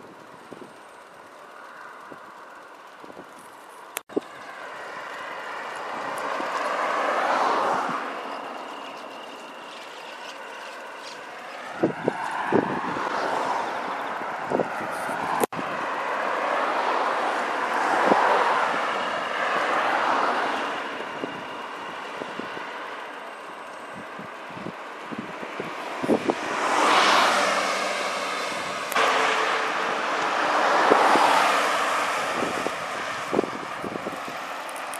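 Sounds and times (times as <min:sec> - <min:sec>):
vehicles passing on a road: 0:00.0 - 0:34.9.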